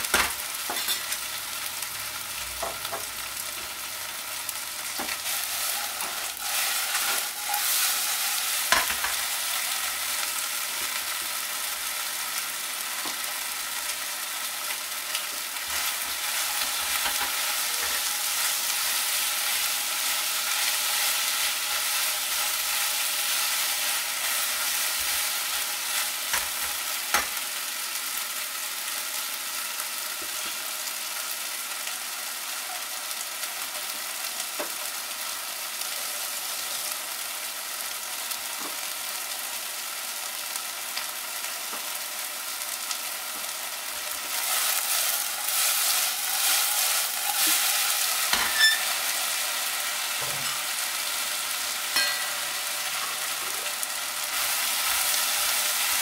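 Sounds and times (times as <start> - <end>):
chicken sizzling in a wok: 0.0 - 56.0.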